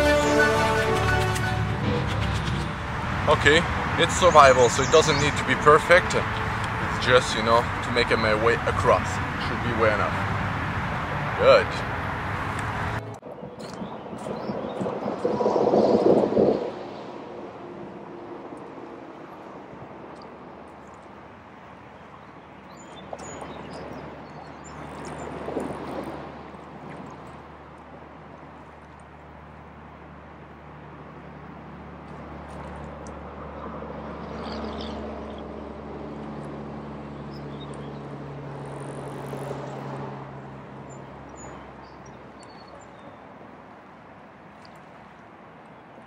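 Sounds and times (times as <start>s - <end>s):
low engine hum: 0.0s - 46.0s
water sloshing and splashing: 0.0s - 46.0s.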